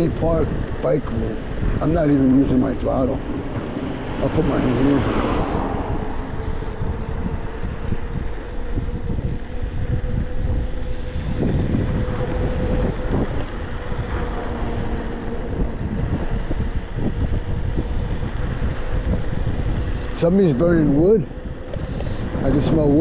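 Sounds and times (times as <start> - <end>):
road rumble: 0.0 - 23.0
wind buffeting microphone: 0.0 - 23.0.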